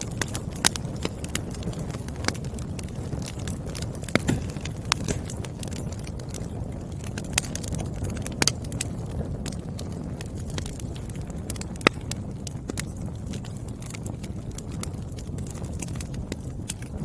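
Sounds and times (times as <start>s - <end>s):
sharp pops of fire: 0.0s - 17.0s
wood fire crackling: 0.0s - 17.0s.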